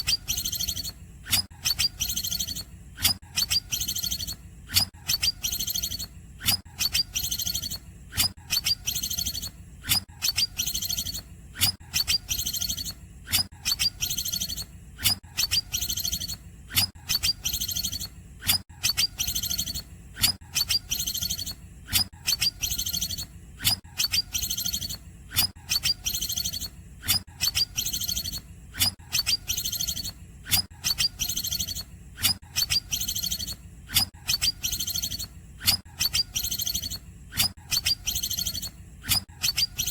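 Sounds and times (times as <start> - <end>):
bird singing with trills: 0.0 - 9.5, 10.2 - 11.2, 11.9 - 18.1, 18.8 - 39.9.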